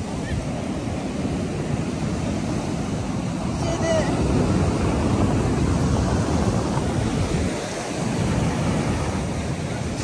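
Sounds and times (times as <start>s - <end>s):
sea surf breaking on seawall: 0.0s - 10.0s
wind buffeting microphone: 0.0s - 10.0s.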